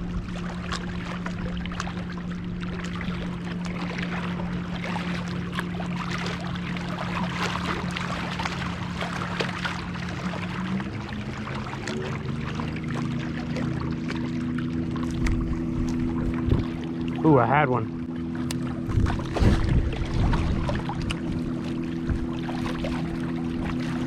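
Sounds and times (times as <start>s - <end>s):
motorboat engine humming: 0.0s - 24.0s
water lapping at shore: 0.0s - 24.0s.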